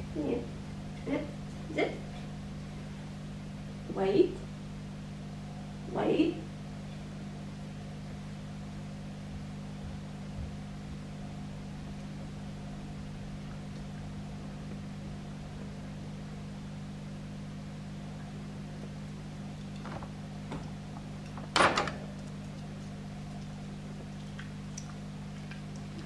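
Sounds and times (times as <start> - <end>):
low appliance hum: 0.0 - 26.0.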